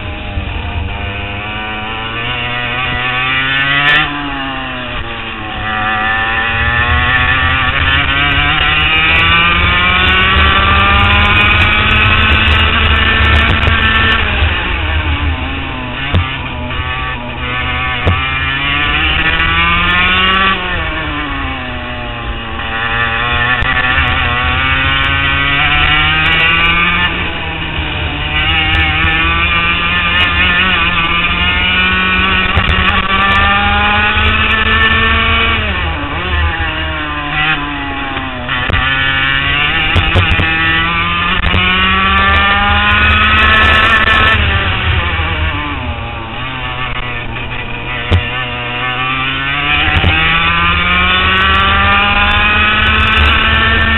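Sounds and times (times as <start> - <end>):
kart engine revving: 0.0 - 53.9.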